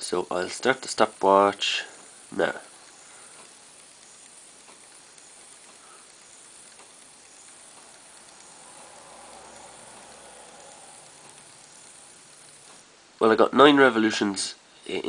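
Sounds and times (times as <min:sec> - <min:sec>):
small gear motor whirring: 0:00.0 - 0:13.3.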